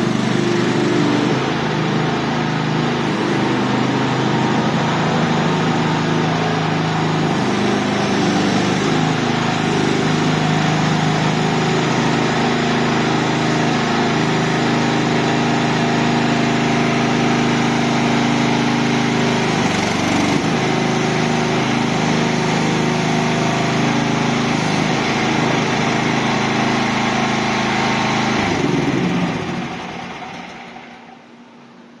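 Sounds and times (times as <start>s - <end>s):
small petrol engine running: 0.0s - 31.4s.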